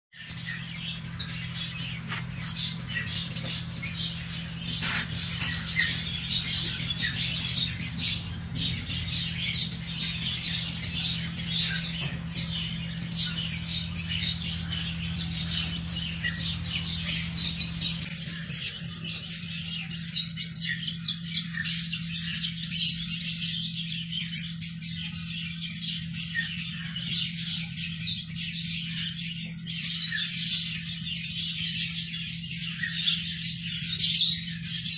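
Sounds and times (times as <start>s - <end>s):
ducklings and chicks peeping: 0.2s - 34.9s
steady low hum: 0.2s - 34.9s.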